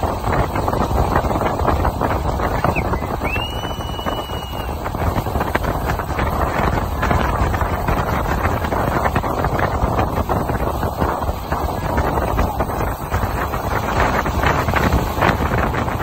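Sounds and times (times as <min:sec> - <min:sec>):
small boat rushing across water: 0:00.0 - 0:16.0
wind buffeting microphone: 0:00.0 - 0:16.0.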